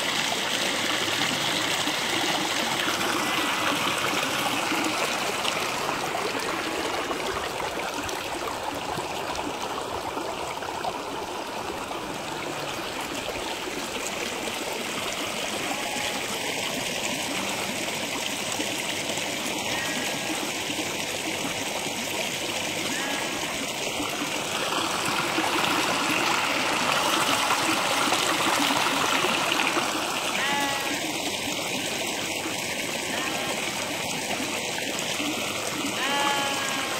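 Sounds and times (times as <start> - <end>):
stream flowing: 0.0 - 36.9.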